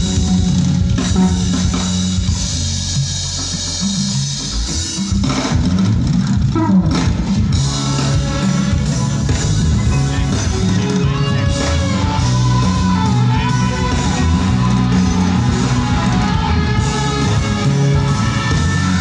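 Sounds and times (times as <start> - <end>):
bass guitar: 0.0 - 19.0
drums: 0.0 - 19.0
electric guitar: 0.0 - 19.0.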